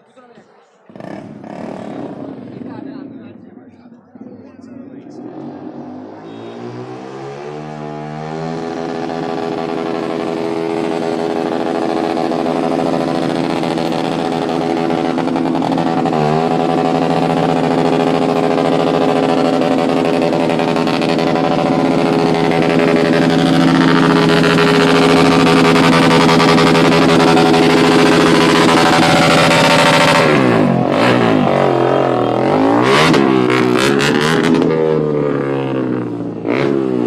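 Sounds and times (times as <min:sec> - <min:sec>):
motorcycle engine: 0:00.0 - 0:37.0.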